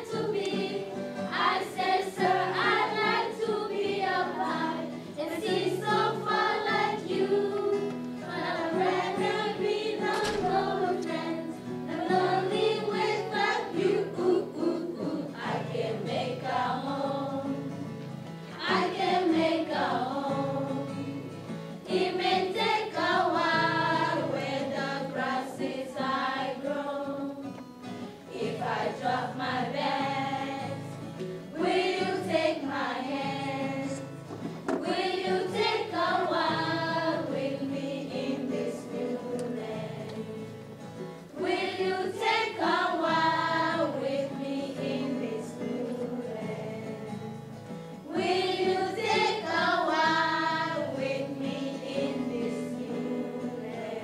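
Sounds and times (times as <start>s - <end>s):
girls singing together: 0.0s - 27.6s, 28.2s - 54.0s.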